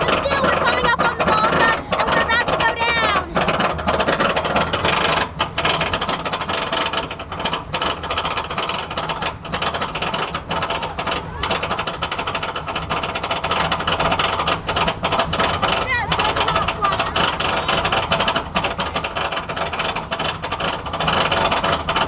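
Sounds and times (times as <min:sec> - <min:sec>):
roller coaster lift chain clattering: 0:00.0 - 0:22.0.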